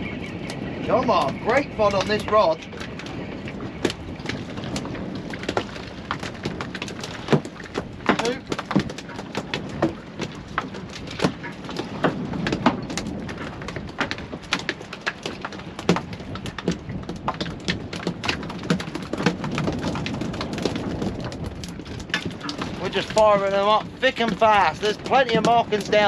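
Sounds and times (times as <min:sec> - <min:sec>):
sea washing against hull: 0:00.0 - 0:26.0
fish flapping against boat: 0:00.3 - 0:26.0.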